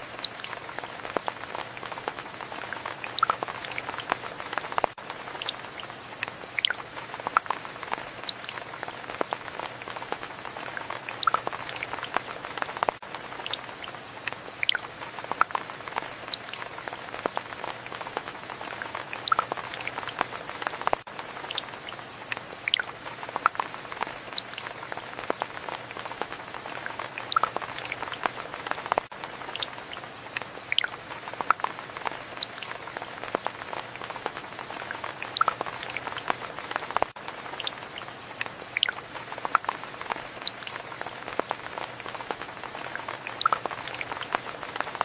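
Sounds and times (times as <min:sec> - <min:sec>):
raindrops hitting close by: 0:00.0 - 0:45.0
steady rain falling: 0:00.0 - 0:45.0.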